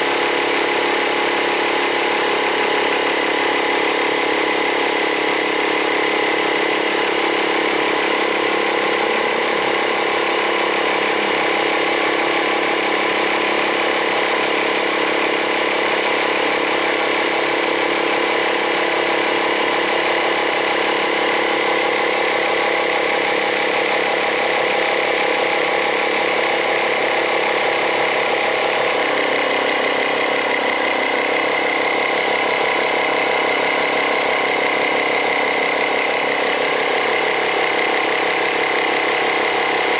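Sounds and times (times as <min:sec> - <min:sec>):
small air compressor running: 0:00.0 - 0:39.9.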